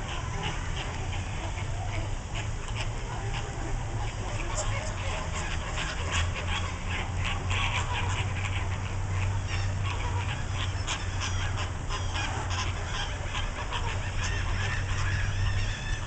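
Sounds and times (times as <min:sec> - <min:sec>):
flamingos honking and gabbling: 0:00.0 - 0:16.0
steady low hum: 0:00.0 - 0:16.0.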